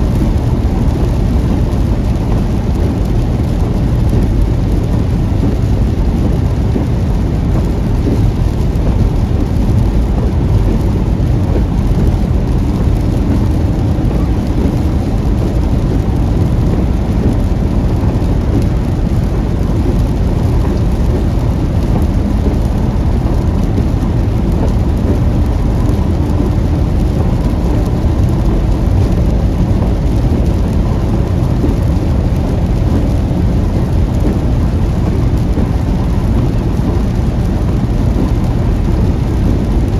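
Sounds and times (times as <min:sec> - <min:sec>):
car rumble on wet road: 0:00.0 - 0:39.9
heavy rain on a car: 0:00.0 - 0:39.9.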